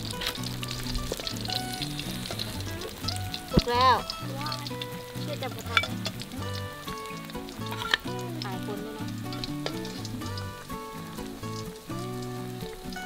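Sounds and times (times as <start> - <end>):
background music with bass line: 0.0 - 13.0
fish deep-frying in hot oil: 0.0 - 13.0.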